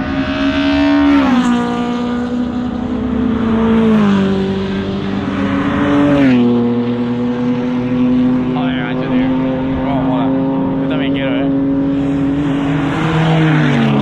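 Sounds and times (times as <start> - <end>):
race car engines at speed: 0.0 - 14.0.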